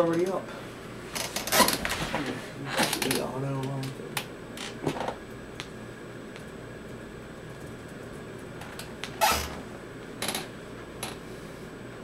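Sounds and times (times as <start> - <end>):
computer fans humming: 0.0 - 12.0.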